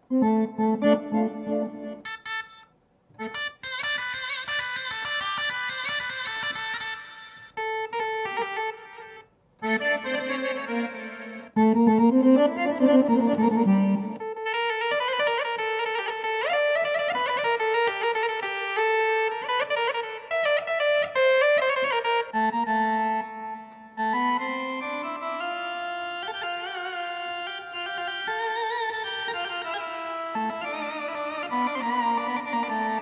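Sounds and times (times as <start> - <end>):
keyboard melodic phrases: 0.0 - 33.0.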